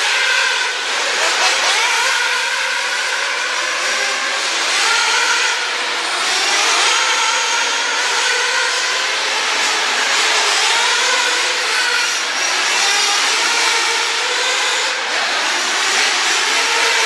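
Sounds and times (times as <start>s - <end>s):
toy car motors whining: 0.0s - 17.0s.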